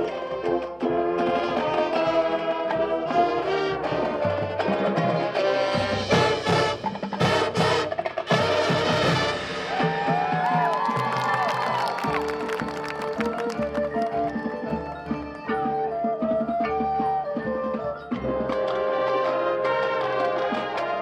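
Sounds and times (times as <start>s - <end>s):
marching band percussion: 0.0s - 21.0s.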